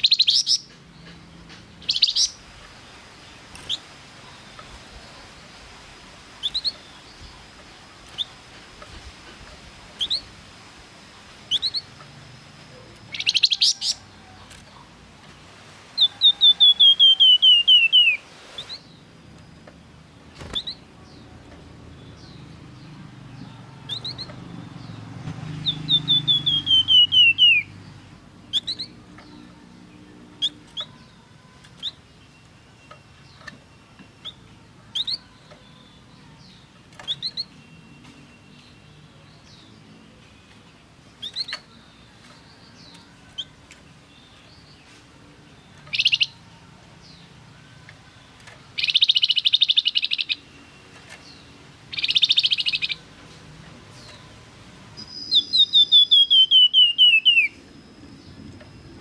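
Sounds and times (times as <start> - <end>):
harsh rattling bird calls: 0.0 - 37.8, 40.8 - 59.0
songbird singing: 0.0 - 59.0.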